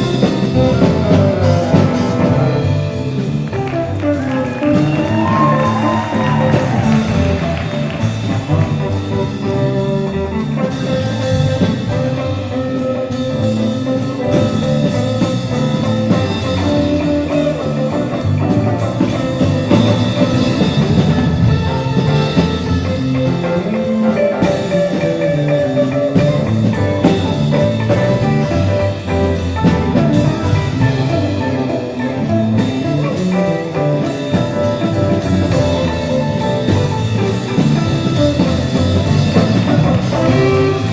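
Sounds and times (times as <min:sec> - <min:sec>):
bass line: 0:00.0 - 0:40.9
drum kit: 0:00.0 - 0:40.9
guitar: 0:00.0 - 0:40.9
held horn notes: 0:00.0 - 0:40.9.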